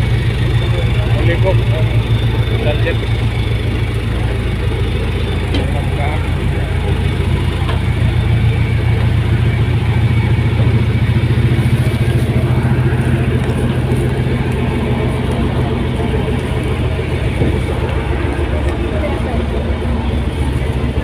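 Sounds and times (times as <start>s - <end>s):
ferry diesel engines droning: 0.0s - 21.0s.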